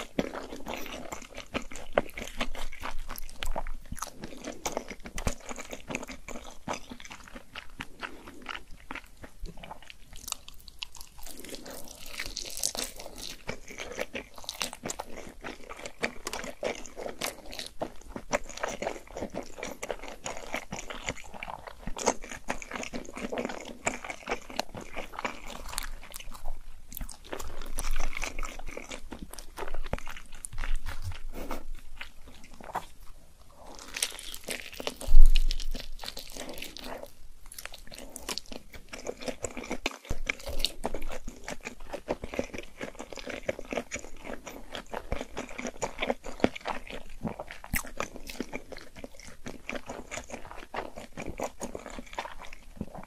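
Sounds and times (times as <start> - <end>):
wet sticky chewing: 0.0 - 53.0.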